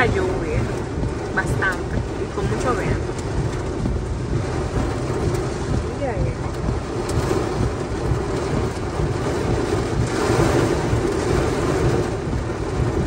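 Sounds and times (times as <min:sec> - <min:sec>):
heavy rain on a car roof: 0:00.0 - 0:13.0
strong wind: 0:00.0 - 0:13.0.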